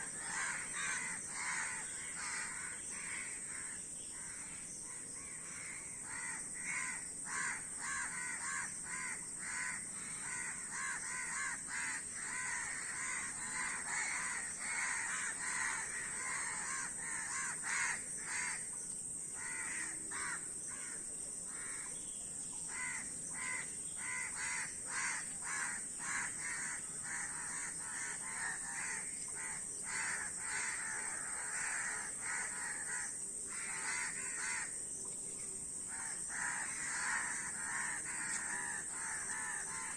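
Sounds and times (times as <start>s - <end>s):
crows cawing: 0.0s - 4.6s, 5.2s - 18.7s, 19.4s - 21.9s, 22.7s - 34.8s, 35.9s - 39.9s.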